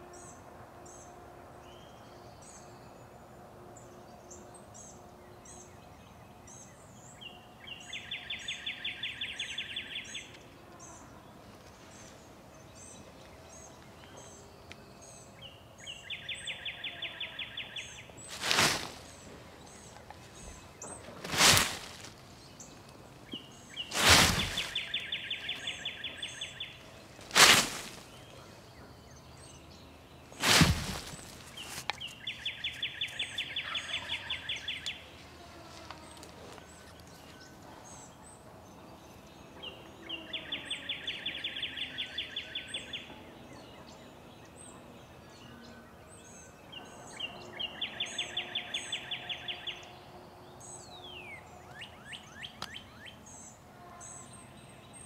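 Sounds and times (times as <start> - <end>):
faint songbird chirps: 0.0 - 55.0.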